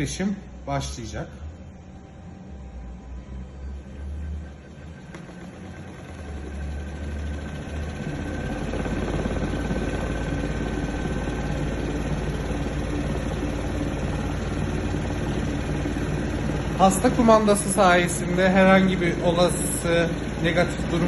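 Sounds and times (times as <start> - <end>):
rapidly pulsing low hum: 1.4 - 21.0.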